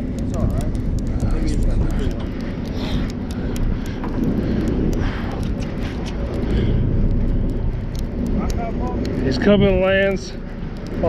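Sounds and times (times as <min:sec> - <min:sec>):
boat engine rumble: 0:00.0 - 0:11.0
wind on microphone: 0:00.0 - 0:11.0.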